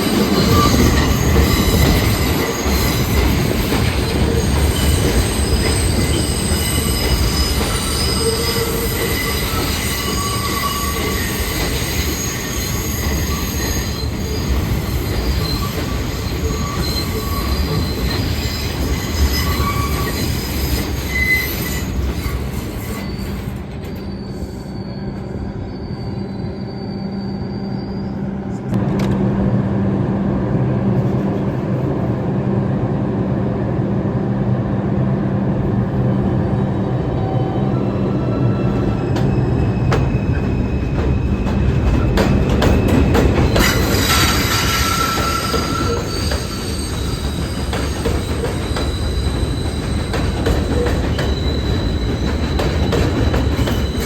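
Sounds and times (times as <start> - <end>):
train wheels squealing: 0.0 - 28.7, 36.4 - 54.0
train rumbling on rails: 0.0 - 54.0.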